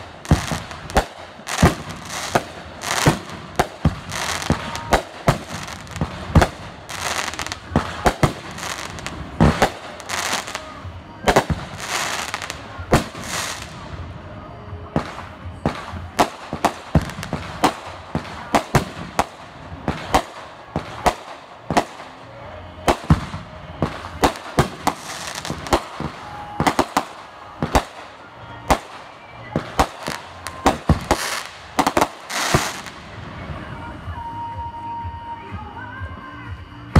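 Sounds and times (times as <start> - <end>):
fireworks bangs: 0.0 - 34.1
fireworks crackling: 0.0 - 35.0.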